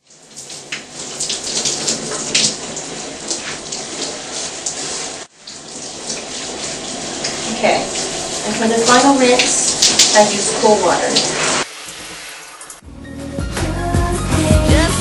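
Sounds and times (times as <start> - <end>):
shower water spraying: 0.0 - 12.8
splashes in wet hair: 0.0 - 12.8.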